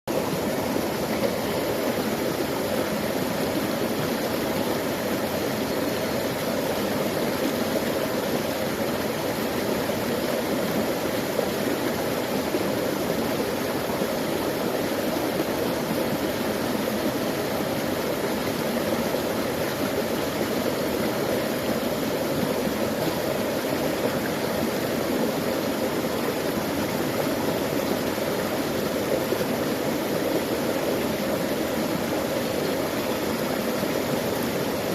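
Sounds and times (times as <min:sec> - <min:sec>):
creek flowing: 0:00.1 - 0:34.9.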